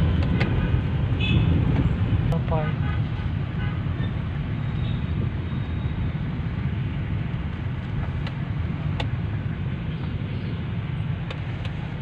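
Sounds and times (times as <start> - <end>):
road and engine rumble inside car: 0.0 - 12.0.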